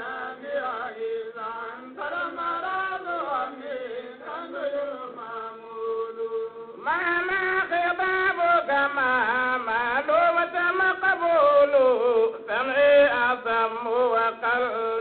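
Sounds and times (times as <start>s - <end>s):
man singing devotional chant: 0.0s - 15.0s.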